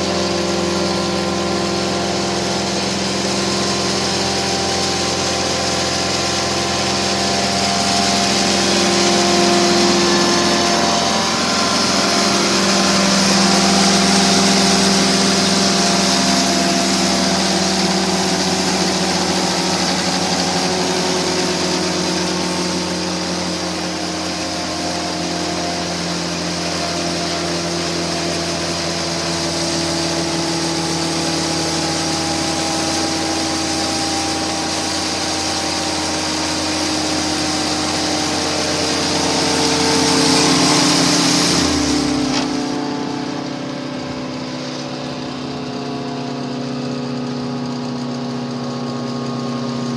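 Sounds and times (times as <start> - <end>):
wood chipper engine running: 0.0 - 49.9.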